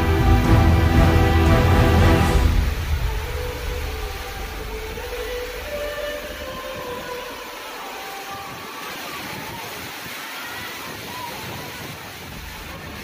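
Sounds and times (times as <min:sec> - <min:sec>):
heavy rain: 0:00.0 - 0:13.0
strong wind: 0:00.0 - 0:13.0.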